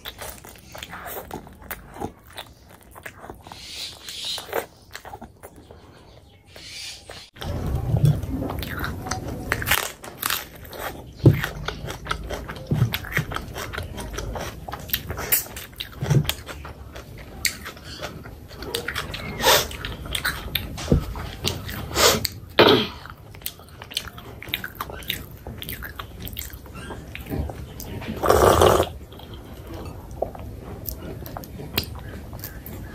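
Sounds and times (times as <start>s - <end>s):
chewing with wet mouth smacks: 0.0s - 32.9s
food crunching: 0.0s - 32.9s.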